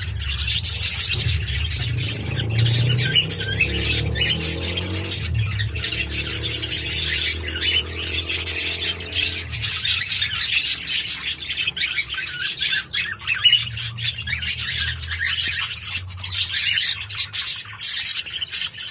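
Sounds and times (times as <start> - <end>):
budgerigar warbling chatter: 0.0 - 18.9.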